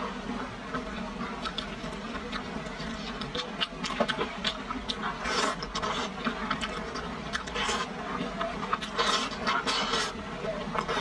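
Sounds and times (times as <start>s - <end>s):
wet slurping and chewing: 0.6s - 11.0s.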